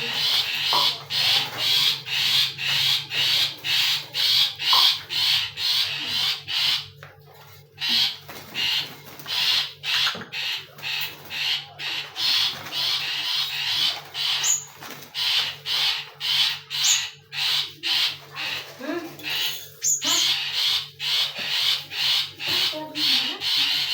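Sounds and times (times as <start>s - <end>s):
bird harsh calls: 0.0s - 23.9s.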